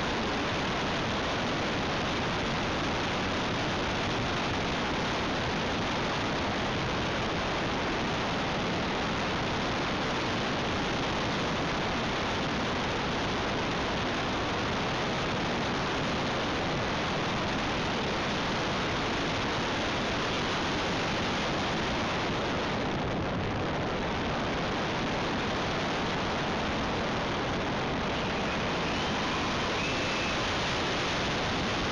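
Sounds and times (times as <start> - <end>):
airflow buffeting microphone: 0.0 - 31.9.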